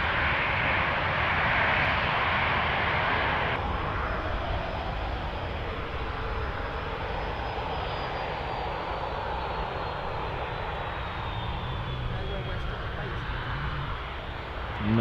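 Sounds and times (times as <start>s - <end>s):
faint high whine: 0.0s - 15.0s
jet engines running: 0.0s - 15.0s.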